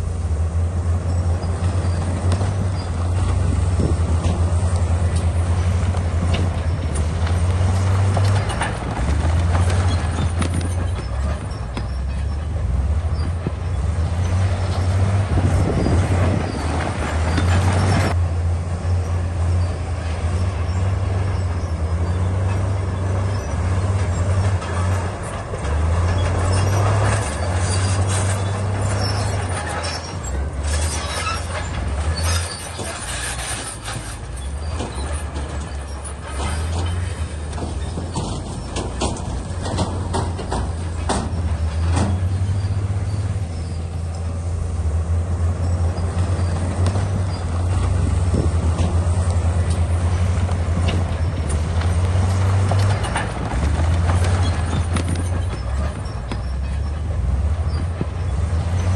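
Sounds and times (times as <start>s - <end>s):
bulldozer diesel engine droning: 0.0s - 58.9s
metallic clanking of steel tracks: 0.0s - 58.9s.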